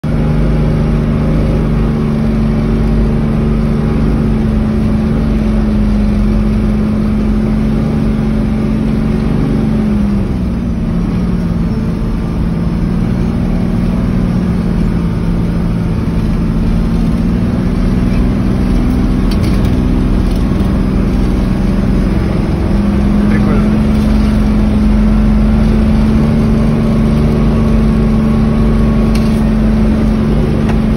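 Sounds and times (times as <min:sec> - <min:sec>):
vehicle engine running: 0:00.0 - 0:30.9.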